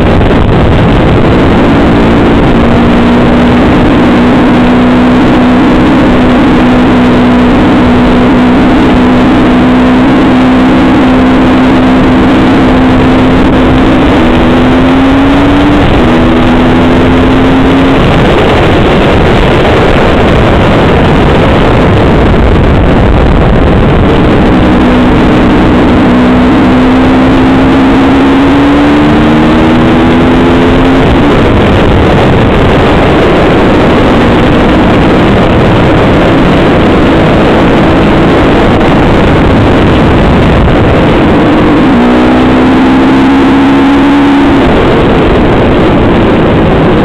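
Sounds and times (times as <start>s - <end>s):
motorcycle engine accelerating: 0.0s - 47.0s
wind rush on microphone: 0.0s - 47.0s.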